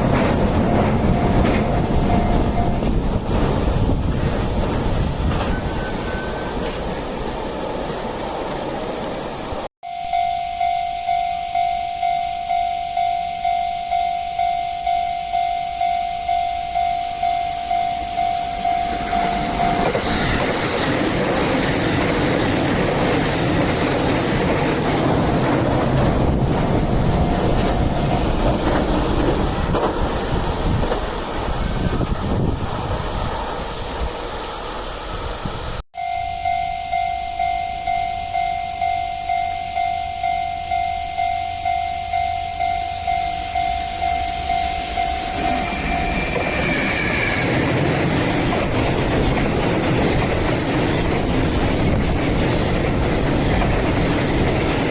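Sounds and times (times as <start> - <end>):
crossing warning bell dinging: 0.0 - 7.2, 9.8 - 32.6, 35.9 - 54.9
train wheels rumbling: 0.0 - 9.7, 14.4 - 35.8, 40.3 - 54.9.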